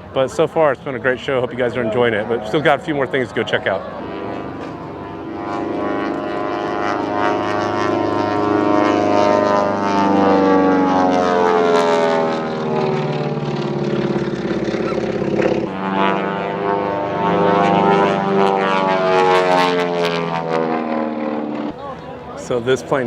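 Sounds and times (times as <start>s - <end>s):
propeller plane engines droning: 0.0s - 23.0s.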